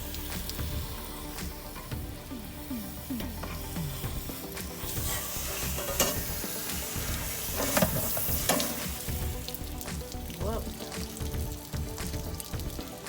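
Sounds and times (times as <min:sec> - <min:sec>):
water gurgling: 0:00.0 - 0:13.0
water gushing and splashing: 0:00.0 - 0:13.0.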